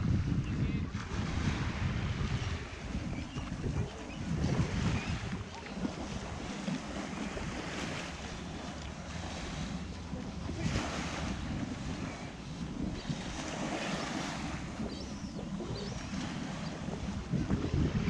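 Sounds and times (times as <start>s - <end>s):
surf washing onto beach: 0.0s - 18.0s
wind rumbling on microphone: 0.0s - 18.0s.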